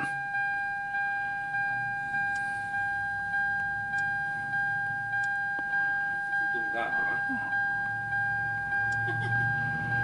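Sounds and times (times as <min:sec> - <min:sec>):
car warning chime dinging: 0:00.0 - 0:10.0.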